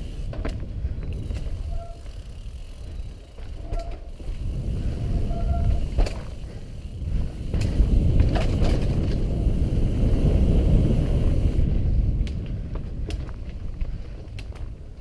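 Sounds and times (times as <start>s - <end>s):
bike clacking and rattling: 0.0s - 15.0s
bike tyres rumbling on dirt: 0.0s - 15.0s
wind on microphone: 0.0s - 15.0s.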